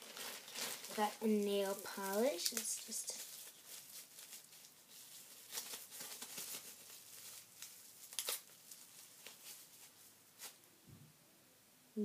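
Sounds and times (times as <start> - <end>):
sharp crackles: 0.0 - 9.8
packaging crinkling and rustling: 0.0 - 10.6.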